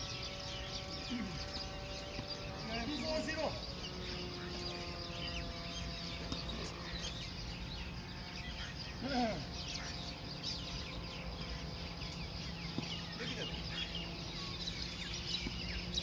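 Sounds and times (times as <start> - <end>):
outdoor background hum: 0.0 - 16.0
small birds chirping: 0.0 - 16.0.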